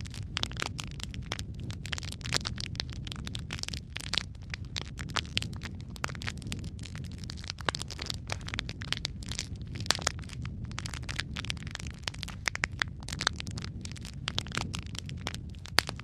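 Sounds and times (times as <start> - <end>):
low rumble of flame: 0.0 - 16.0
wood fire crackling: 0.0 - 16.0.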